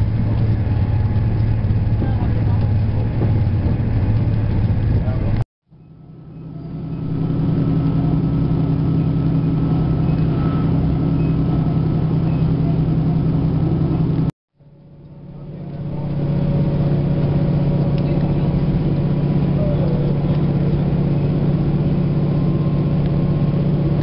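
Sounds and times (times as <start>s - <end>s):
vehicle engine hum and rolling noise: 0.0s - 24.0s.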